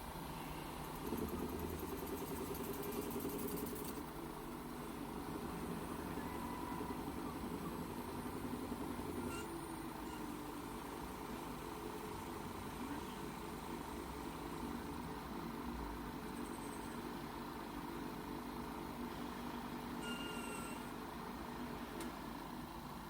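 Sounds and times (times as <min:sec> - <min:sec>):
machining equipment humming: 0:00.0 - 0:23.0.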